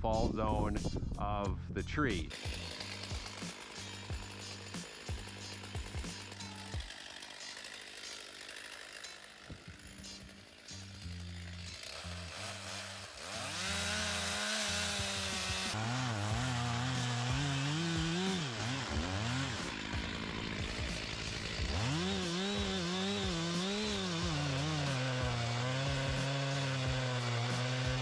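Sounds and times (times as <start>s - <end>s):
chainsaw cutting wood: 2.2s - 28.0s.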